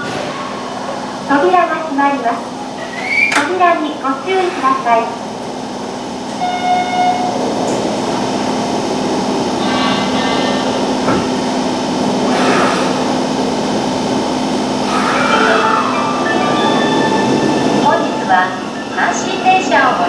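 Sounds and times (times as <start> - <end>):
electric train running hum: 0.0 - 20.0.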